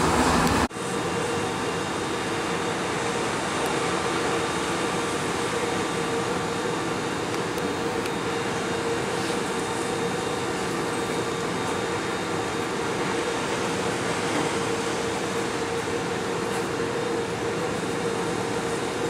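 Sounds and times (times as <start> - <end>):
ferry machinery hum: 0.0 - 19.0.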